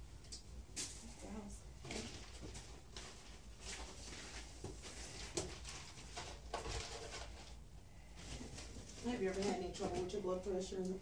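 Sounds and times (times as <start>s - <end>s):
rustling handling noise: 0.7s - 10.9s.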